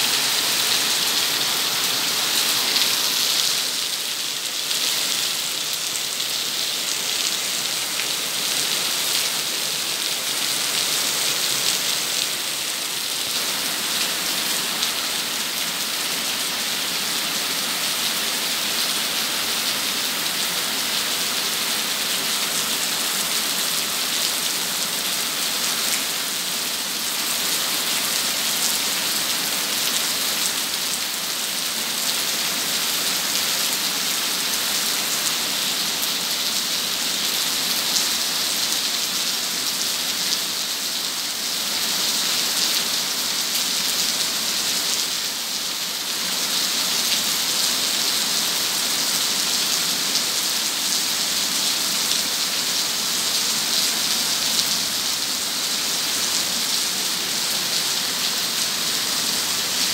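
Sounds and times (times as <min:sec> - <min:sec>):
heavy rain on paving: 0:00.0 - 0:59.9.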